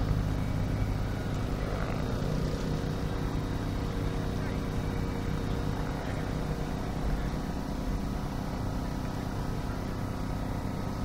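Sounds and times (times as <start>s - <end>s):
helicopters droning: 0.0s - 11.0s.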